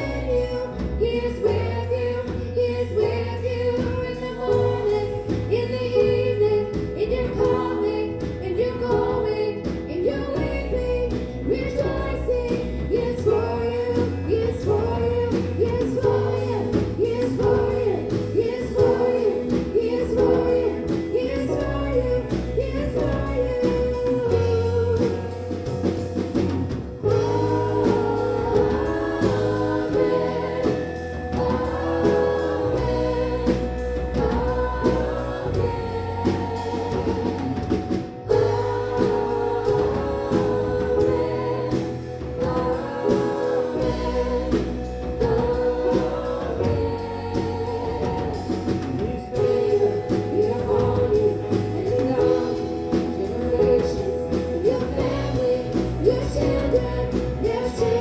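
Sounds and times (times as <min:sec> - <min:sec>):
bass and drum kit: 0:00.0 - 0:58.0
people singing worship song: 0:00.0 - 0:58.0.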